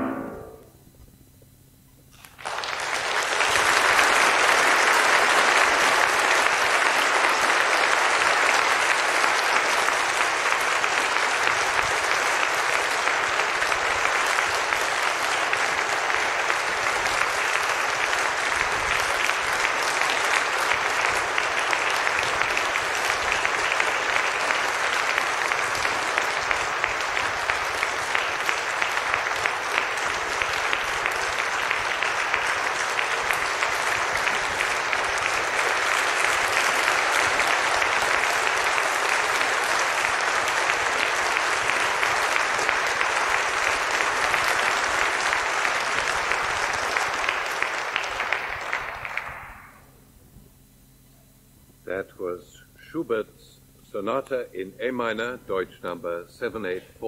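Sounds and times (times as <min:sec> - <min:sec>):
audience applauding: 0:02.2 - 0:49.9.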